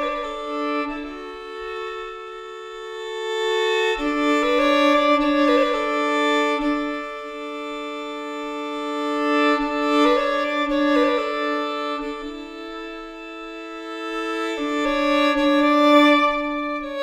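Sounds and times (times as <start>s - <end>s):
slow violin music: 0.0s - 17.0s.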